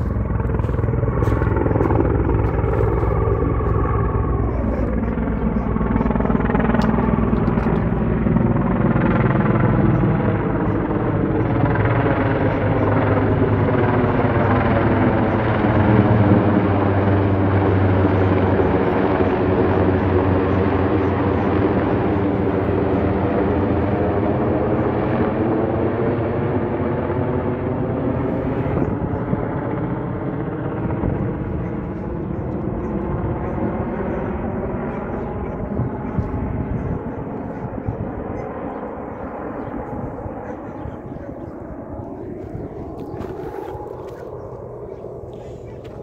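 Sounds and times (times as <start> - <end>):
helicopter flying overhead: 0.0 - 46.0.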